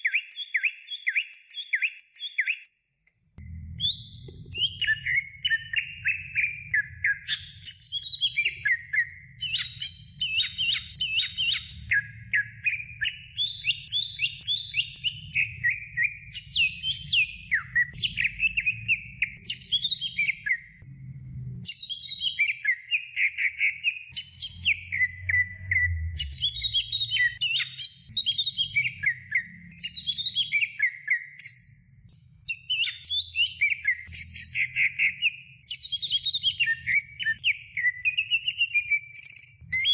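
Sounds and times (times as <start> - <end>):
bird singing chirps and whistles: 0.0 - 2.7, 3.6 - 20.9, 21.6 - 39.9.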